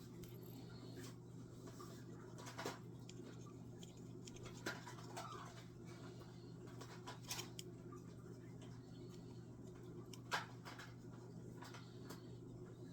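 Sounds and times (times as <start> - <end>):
low electrical hum: 0.0 - 12.9.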